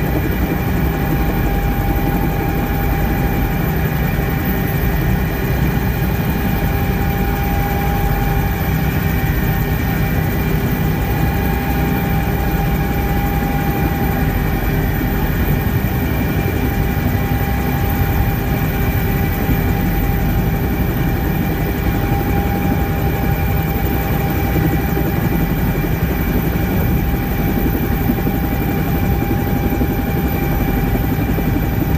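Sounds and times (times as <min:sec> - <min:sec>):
helicopter engines and rotor running: 0:00.0 - 0:31.9.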